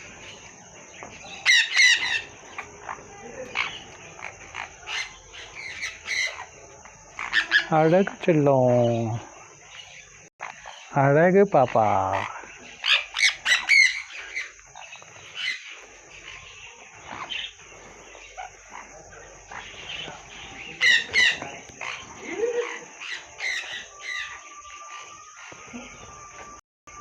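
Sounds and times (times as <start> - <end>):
small birds squawking and chirping: 0.0 - 27.0.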